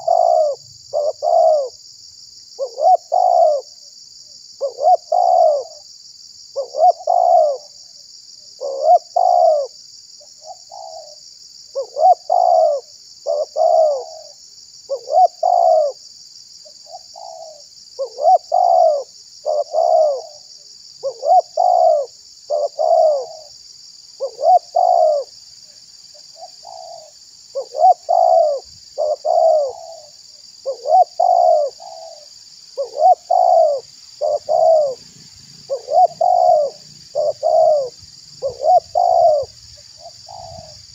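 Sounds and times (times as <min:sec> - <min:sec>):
dove cooing: 0:00.0 - 0:01.8, 0:02.6 - 0:03.7, 0:04.6 - 0:05.8, 0:06.6 - 0:07.8, 0:08.6 - 0:09.8, 0:10.4 - 0:16.0, 0:16.9 - 0:23.5, 0:24.2 - 0:25.3, 0:26.3 - 0:40.9.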